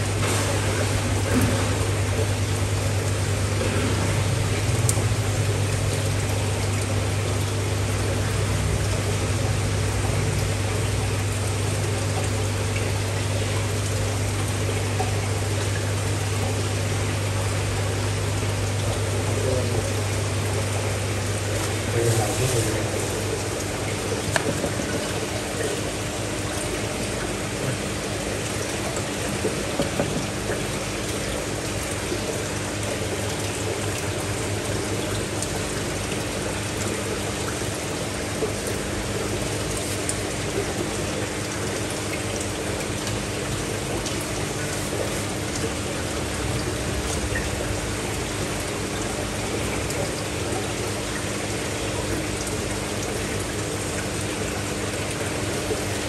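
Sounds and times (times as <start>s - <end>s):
running water splashing: 0.0s - 56.0s.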